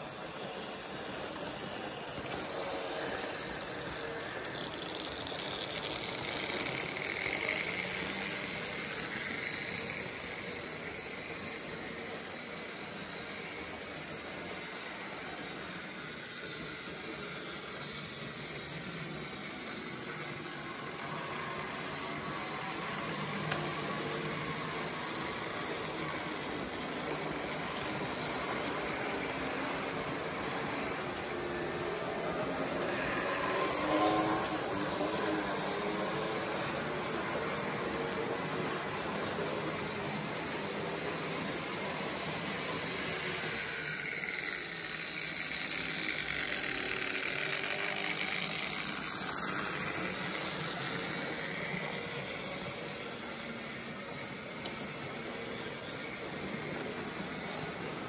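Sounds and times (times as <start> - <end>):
model train wheels rumbling: 0.0 - 58.0.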